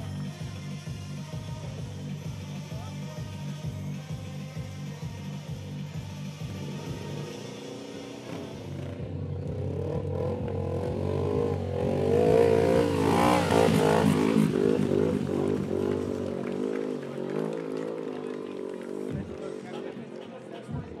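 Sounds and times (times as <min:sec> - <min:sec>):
motorcycle engine revving: 0:00.0 - 0:20.3.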